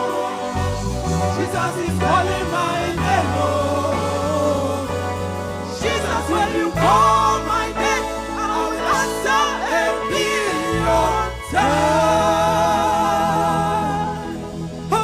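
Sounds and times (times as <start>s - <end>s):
gospel group singing: 0.0s - 15.0s
instrumental backing: 0.0s - 15.0s.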